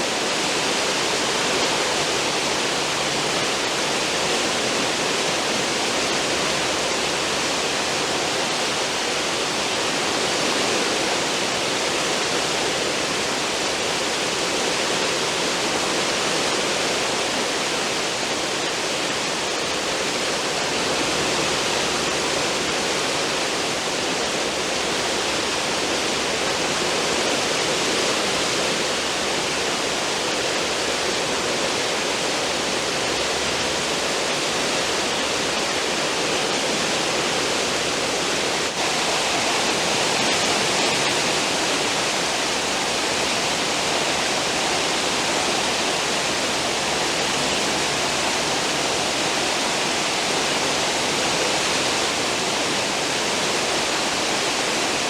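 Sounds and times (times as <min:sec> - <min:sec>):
rush of churning water: 0:00.0 - 0:55.0.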